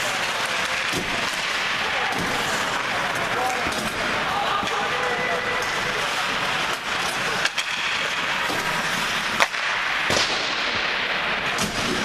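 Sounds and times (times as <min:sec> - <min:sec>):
hockey stick hitting puck: 0:00.0 - 0:12.0
skates scraping on ice: 0:00.0 - 0:12.0.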